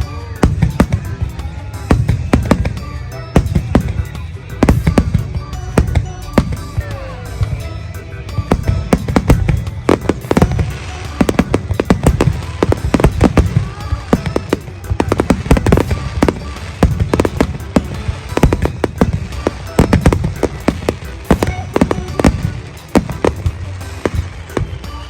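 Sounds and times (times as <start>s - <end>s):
fireworks bangs: 0.3s - 25.0s.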